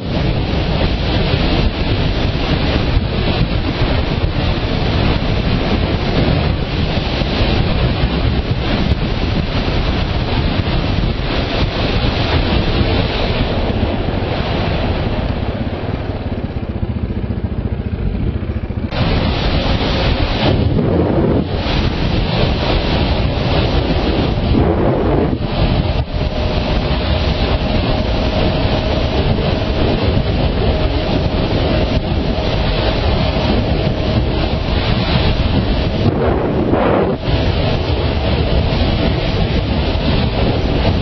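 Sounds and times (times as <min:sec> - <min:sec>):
motorcycle engine running: 0:00.0 - 0:41.0
wind rushing over microphone: 0:00.0 - 0:41.0.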